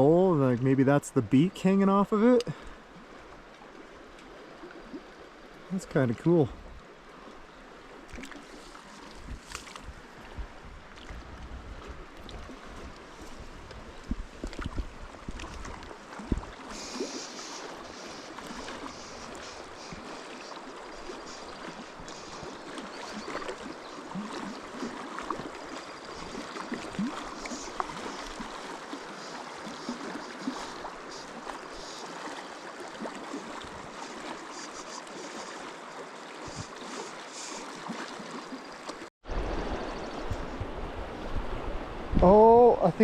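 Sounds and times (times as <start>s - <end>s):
river flowing: 0.0s - 43.0s
small water splashes: 2.2s - 40.3s.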